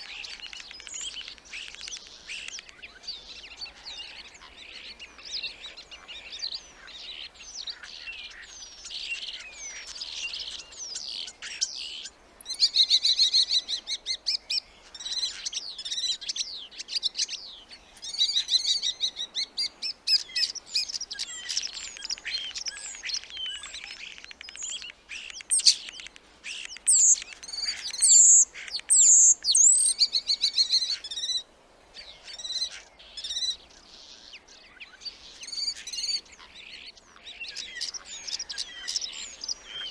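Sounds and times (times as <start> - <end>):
starlings singing: 0.0 - 39.9.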